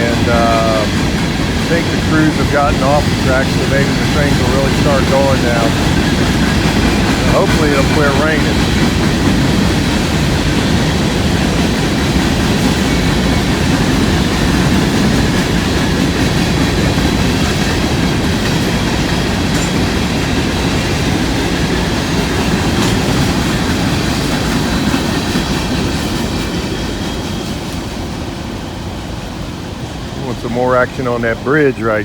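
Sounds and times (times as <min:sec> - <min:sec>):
freight train wheels rumbling on rails: 0:00.0 - 0:32.0.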